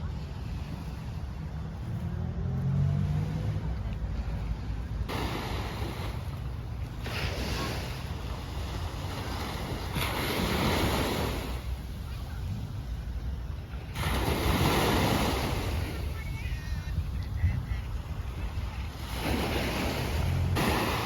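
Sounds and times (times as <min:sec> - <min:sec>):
sea surf breaking: 0:00.0 - 0:21.0
wind rumbling on microphone: 0:00.0 - 0:21.0.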